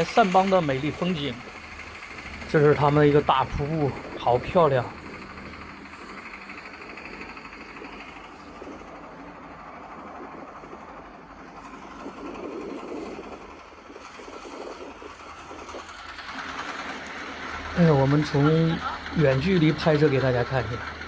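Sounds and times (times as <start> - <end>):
boat engine droning: 0.0 - 21.0
moving water: 0.0 - 21.0.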